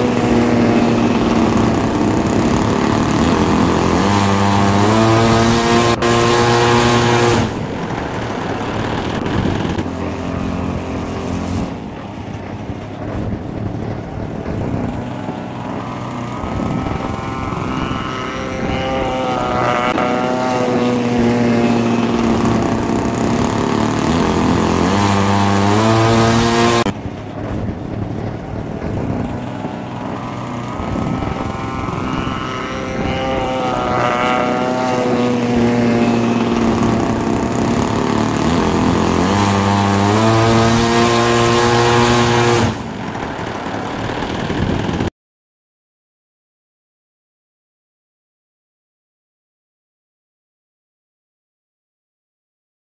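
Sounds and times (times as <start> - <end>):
model plane engine and propeller: 0.0 - 45.1.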